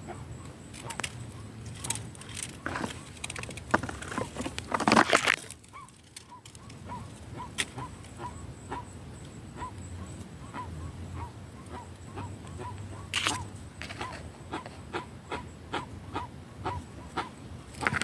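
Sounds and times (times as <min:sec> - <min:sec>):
guan bird calling: 0:00.0 - 0:04.8, 0:05.6 - 0:18.0.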